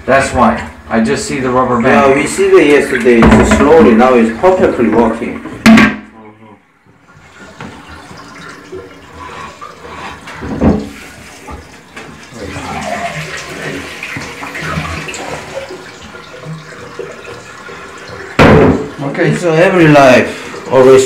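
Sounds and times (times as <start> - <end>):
toilet tank refilling: 0.0 - 5.7, 6.8 - 21.0.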